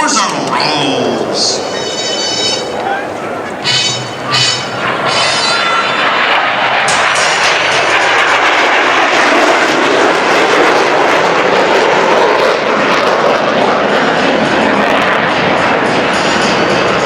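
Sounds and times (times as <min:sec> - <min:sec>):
jet roar: 0:00.0 - 0:17.0.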